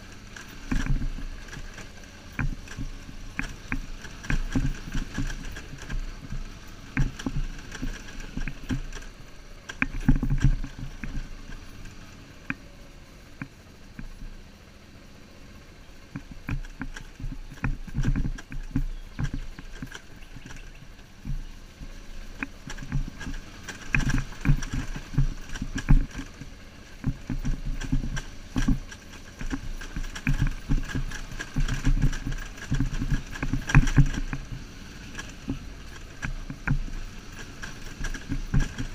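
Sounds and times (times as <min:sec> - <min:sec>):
rattles and knocks on rocky track: 0:00.0 - 0:14.4, 0:15.3 - 0:38.9
motorcycle engine running: 0:00.0 - 0:38.9.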